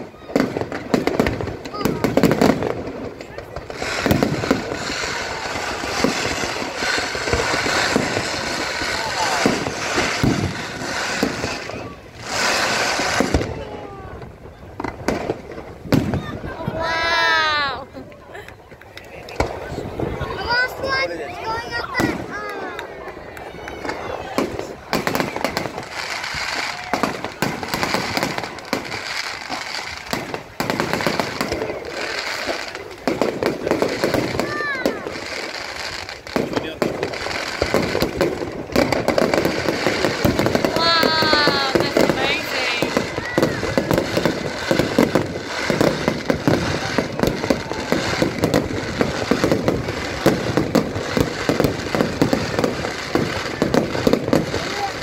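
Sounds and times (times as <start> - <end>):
crackle of firework stars: 0.0 - 17.0, 17.8 - 55.0
fireworks bangs: 0.0 - 55.0.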